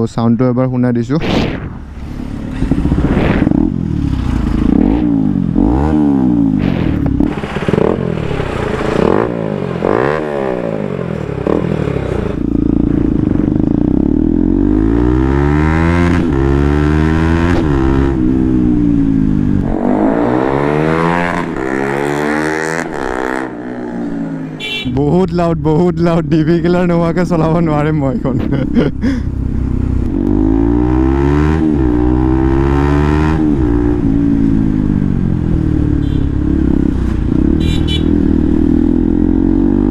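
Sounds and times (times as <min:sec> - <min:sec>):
motorcycle engine revving: 0:01.5 - 0:39.9.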